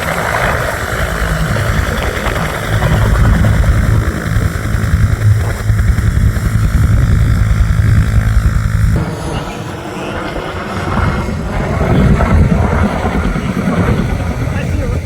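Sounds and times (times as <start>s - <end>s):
helicopter rotor and turbine: 0.0s - 15.0s
thin noisy rush: 0.0s - 15.0s.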